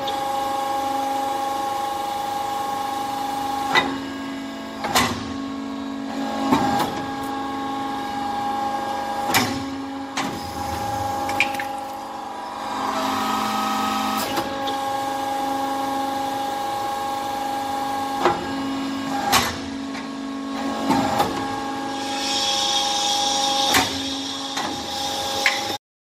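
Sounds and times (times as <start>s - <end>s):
hydraulic press humming: 0.0s - 25.8s.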